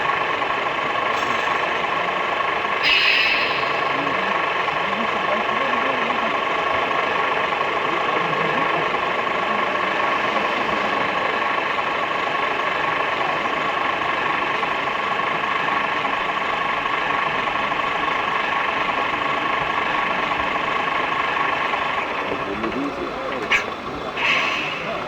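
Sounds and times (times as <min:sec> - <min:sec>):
model engines idling: 0:00.0 - 0:25.0.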